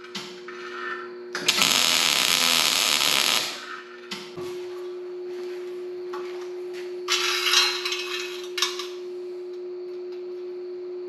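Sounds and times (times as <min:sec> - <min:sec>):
steady humming tone: 0:00.0 - 0:11.0.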